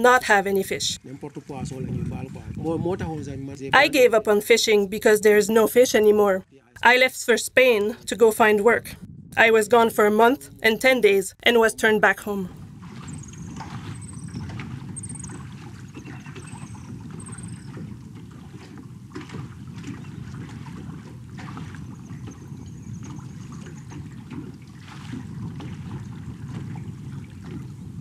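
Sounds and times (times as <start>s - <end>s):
wind and sea rushing: 0.0s - 28.0s.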